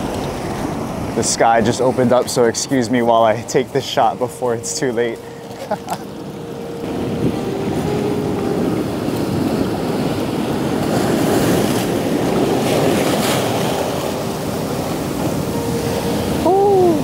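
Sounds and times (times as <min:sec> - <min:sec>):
water rushing up sand: 0:00.0 - 0:17.0
waves breaking on rocks: 0:00.0 - 0:17.0.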